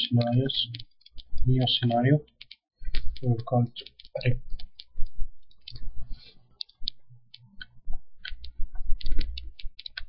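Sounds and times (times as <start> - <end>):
mouse and keyboard clicking: 0.0 - 10.0.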